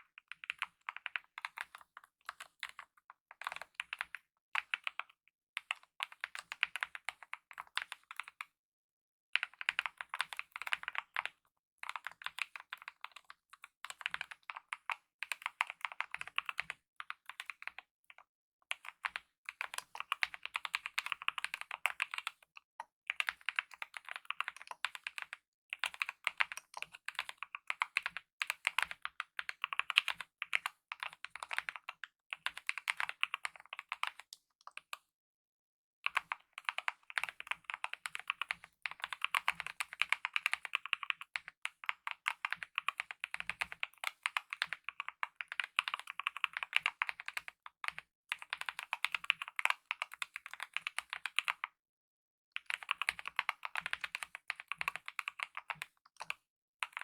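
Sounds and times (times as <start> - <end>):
mechanical keyboard typing: 0.3 - 8.2, 9.4 - 17.8, 18.8 - 22.5, 23.1 - 34.8, 36.1 - 51.7, 52.6 - 57.0.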